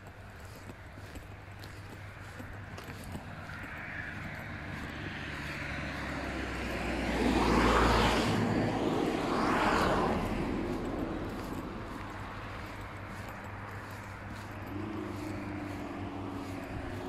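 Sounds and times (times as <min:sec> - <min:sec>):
cars passing on asphalt road: 0:00.0 - 0:17.0.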